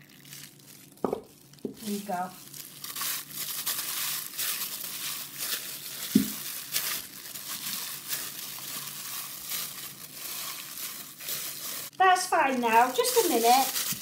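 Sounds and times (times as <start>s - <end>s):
hands squishing dough: 0.0s - 14.0s.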